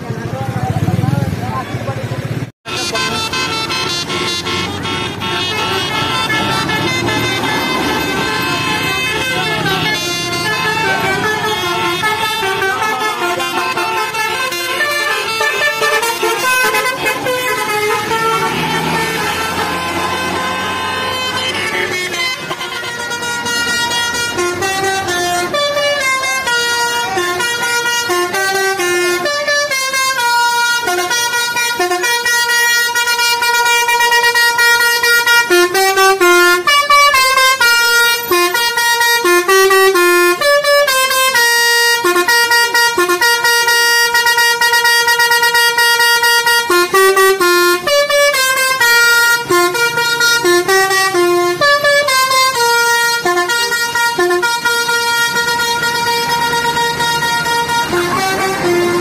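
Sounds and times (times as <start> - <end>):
bus horn playing a tune: 2.6 - 59.0.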